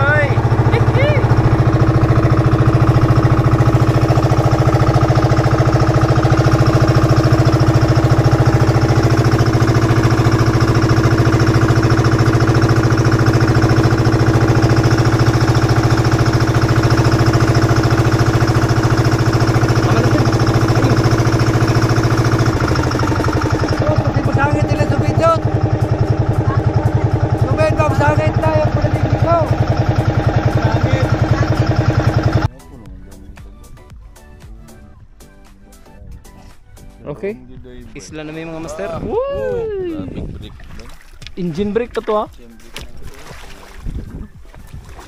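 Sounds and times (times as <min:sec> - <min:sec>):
boat engine chugging: 0:00.0 - 0:45.0.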